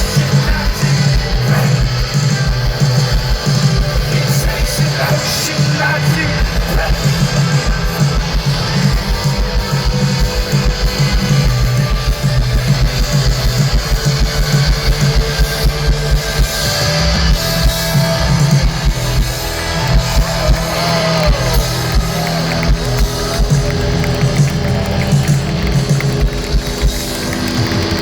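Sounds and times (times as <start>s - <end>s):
drum kit fast beat: 0.0s - 28.0s
electric guitar: 0.0s - 28.0s.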